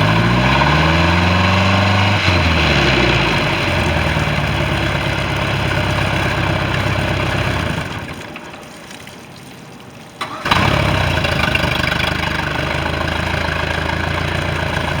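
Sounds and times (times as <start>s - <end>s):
engine cranking: 0.0s - 8.7s, 10.2s - 15.0s
boat engine running: 0.0s - 9.0s, 10.2s - 15.0s.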